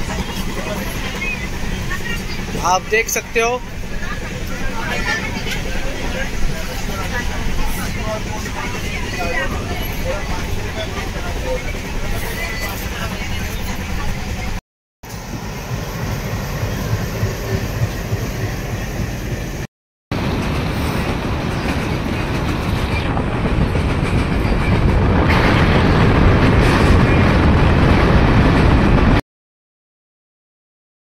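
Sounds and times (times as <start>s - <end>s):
train coach rumbling and rattling: 0.0s - 29.2s.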